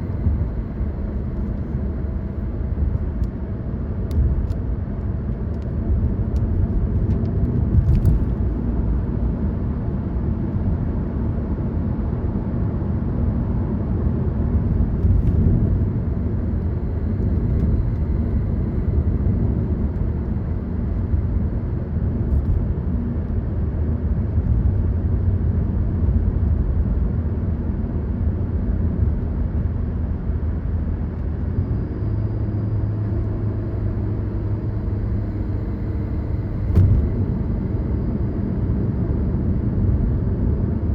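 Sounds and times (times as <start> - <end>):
car engine and tyre rumble: 0.0 - 40.9
steady engine hum: 0.0 - 40.9.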